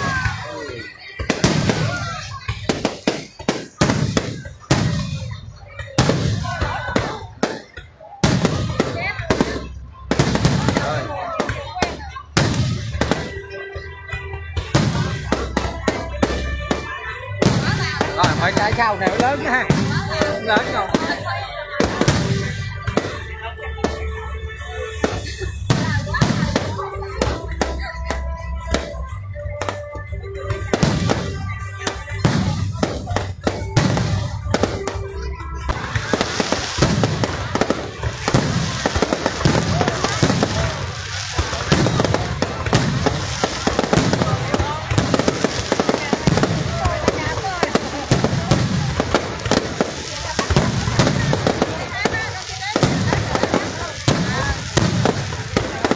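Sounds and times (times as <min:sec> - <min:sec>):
background music: 0:00.0 - 0:55.9
fireworks bursting with bangs: 0:00.0 - 0:55.9.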